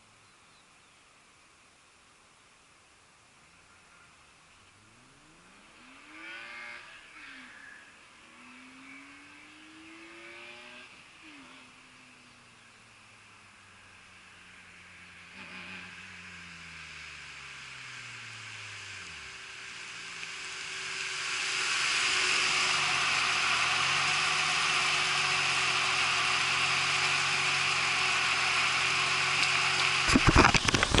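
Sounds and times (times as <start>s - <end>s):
car engine at low revs: 0.0s - 31.0s
buzzy hiss: 2.8s - 31.0s.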